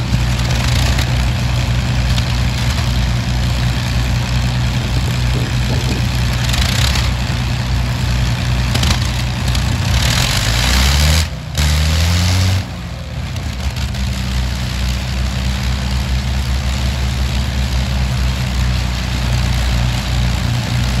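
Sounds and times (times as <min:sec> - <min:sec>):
piston engines idling: 0:00.0 - 0:11.6, 0:12.7 - 0:21.0.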